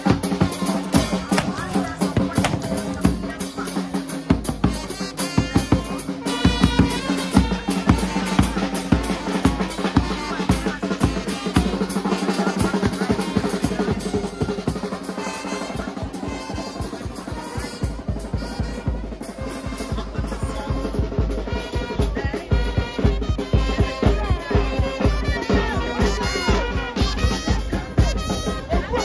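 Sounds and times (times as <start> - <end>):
marching drums: 0.0 - 29.0.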